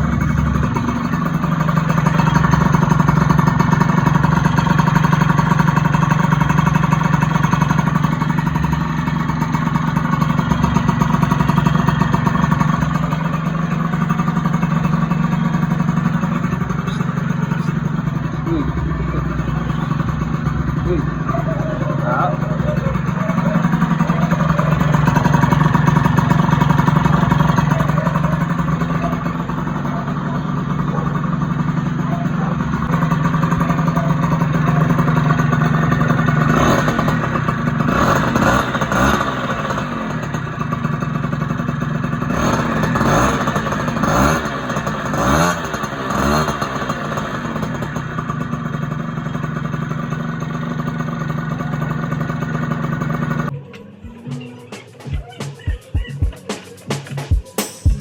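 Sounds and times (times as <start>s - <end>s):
scooter engine idling and revving: 0.0s - 58.0s.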